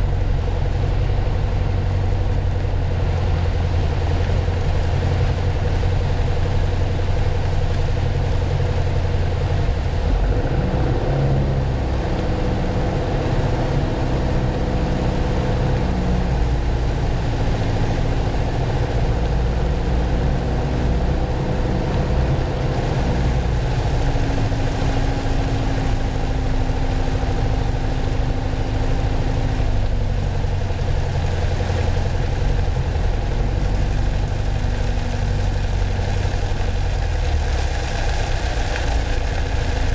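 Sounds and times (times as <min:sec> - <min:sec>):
hiss of air and rain: 0:00.0 - 0:39.9.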